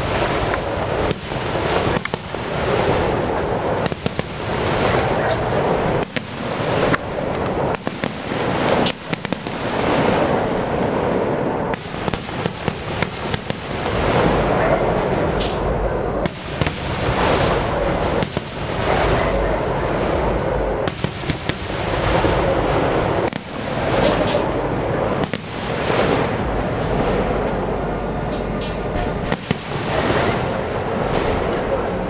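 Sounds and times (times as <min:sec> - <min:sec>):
fireworks bursting: 0:00.0 - 0:10.5, 0:11.7 - 0:14.6, 0:15.3 - 0:26.5, 0:28.6 - 0:31.5.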